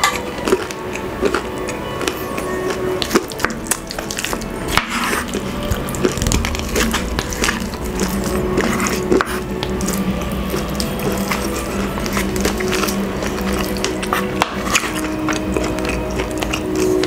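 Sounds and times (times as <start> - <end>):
soft background music: 0.0 - 17.0
wooden utensils clicking: 0.0 - 17.0.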